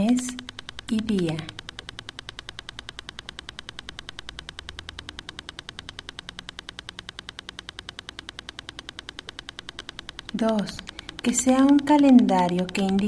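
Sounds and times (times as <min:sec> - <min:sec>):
metronome-like ticking: 0:00.0 - 0:13.0.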